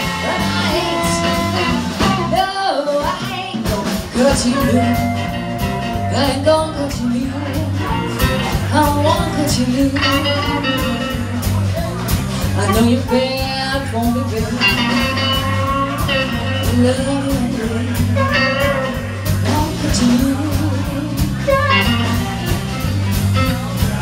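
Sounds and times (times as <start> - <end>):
bass guitar: 0.0 - 24.0
electric guitar: 0.0 - 24.0
steady drum beat: 0.0 - 24.0.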